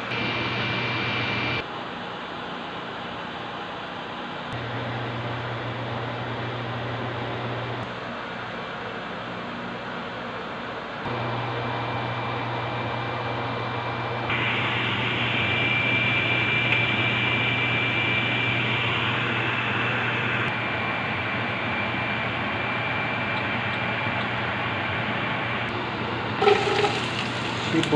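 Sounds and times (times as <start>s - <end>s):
fan-like mechanical hum: 0.0s - 27.9s.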